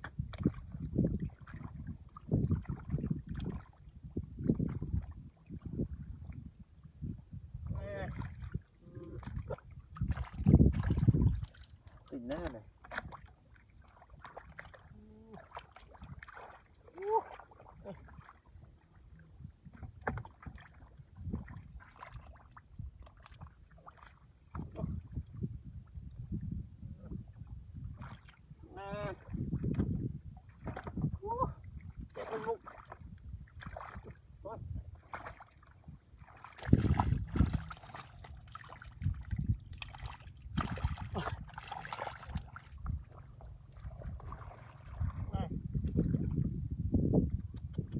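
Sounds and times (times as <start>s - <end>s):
muddy water sloshing by hand: 0.0s - 47.9s.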